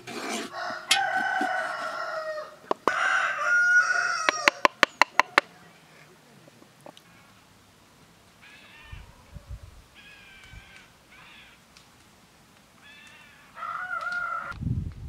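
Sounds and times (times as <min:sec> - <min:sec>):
birds calling harshly: 0:00.0 - 0:11.8, 0:12.7 - 0:14.6.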